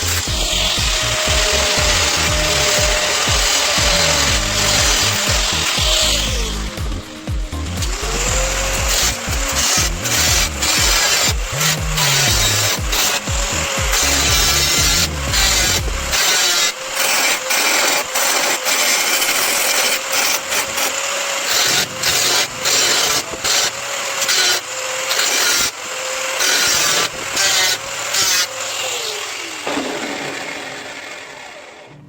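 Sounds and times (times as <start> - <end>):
power tool motor hum: 0.0 - 32.0.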